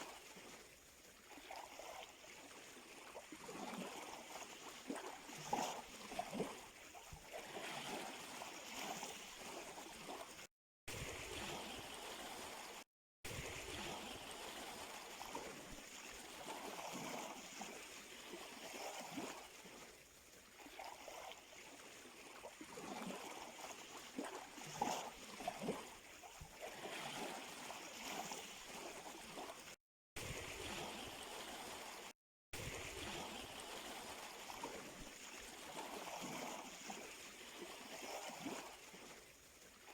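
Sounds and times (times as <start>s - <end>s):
sea water lapping at shore: 0.0s - 39.9s
small waves splashing: 0.0s - 39.9s.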